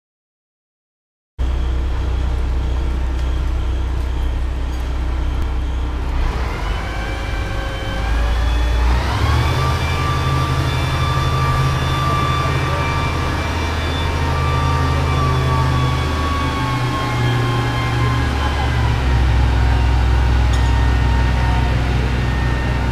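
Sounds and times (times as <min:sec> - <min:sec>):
crane engine running under load: 0:01.4 - 0:22.9.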